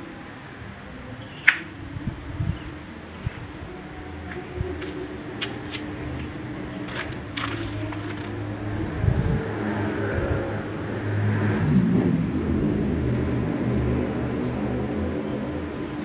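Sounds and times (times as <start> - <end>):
vehicle engine running: 2.0 - 16.0.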